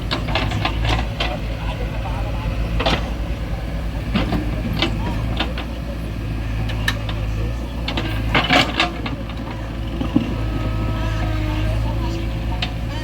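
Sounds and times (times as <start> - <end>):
diesel engine running: 0.0 - 13.0
sharp clanks and knocks: 0.0 - 13.0.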